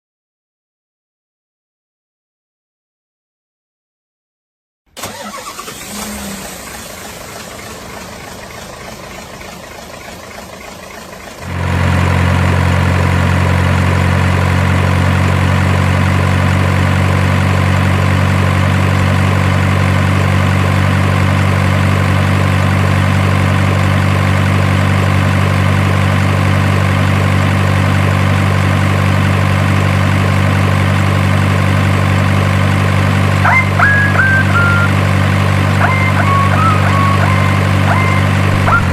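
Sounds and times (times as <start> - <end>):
simulated diesel engine idling: 5.0 - 38.9.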